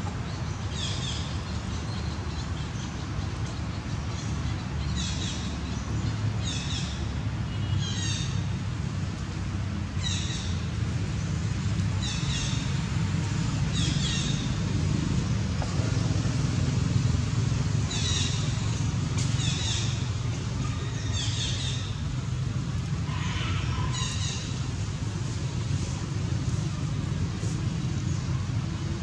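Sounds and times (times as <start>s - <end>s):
traffic engine rumble: 0.0s - 29.0s.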